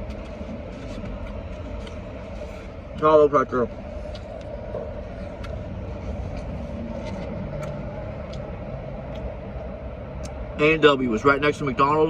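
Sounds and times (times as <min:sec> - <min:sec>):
car engine idling hum: 0:00.0 - 0:12.0.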